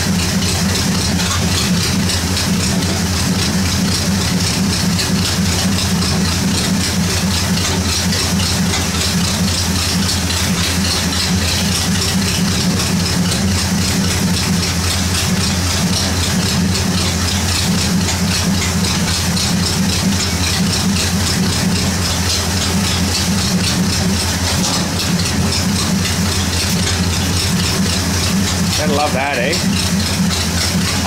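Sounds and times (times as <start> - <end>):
tractor engine idling: 0.0 - 31.0.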